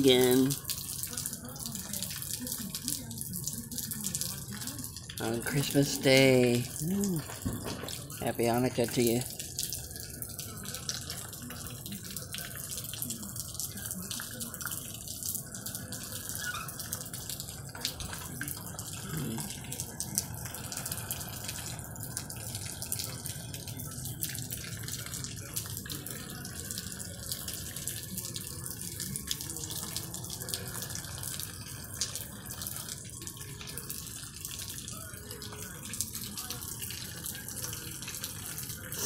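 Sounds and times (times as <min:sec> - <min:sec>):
rain on wet pavement: 0:00.0 - 0:38.9
drips and splashes: 0:00.0 - 0:39.0.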